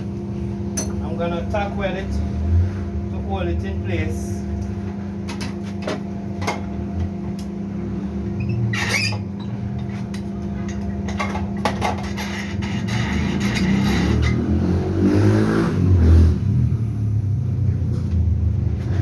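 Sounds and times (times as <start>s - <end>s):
steady low hum: 0.0s - 15.0s, 15.7s - 19.0s.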